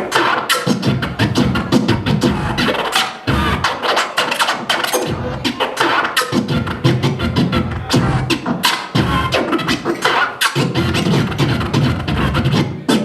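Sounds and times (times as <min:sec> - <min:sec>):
hip-hop instrumental beat: 0:00.0 - 0:13.0.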